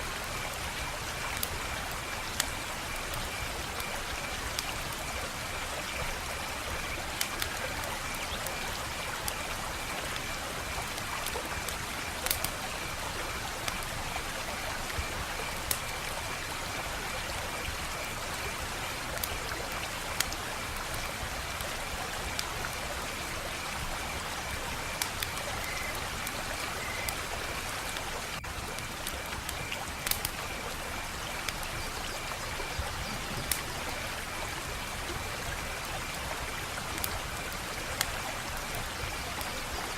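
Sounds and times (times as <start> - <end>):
wood fire crackling: 0.1 - 16.6, 19.0 - 39.4.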